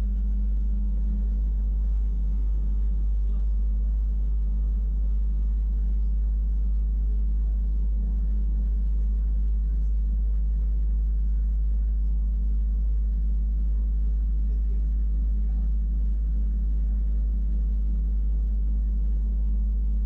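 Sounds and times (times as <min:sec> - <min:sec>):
electric train low rumble: 0:00.0 - 0:20.0.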